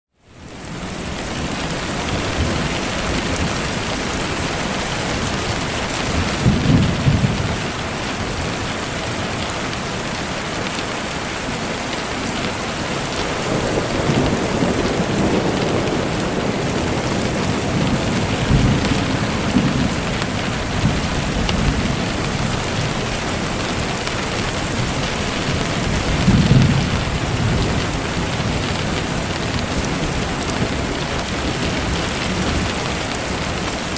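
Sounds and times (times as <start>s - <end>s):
steady rain falling: 0.2s - 33.9s
low rolls of thunder: 1.0s - 9.7s, 13.0s - 33.7s.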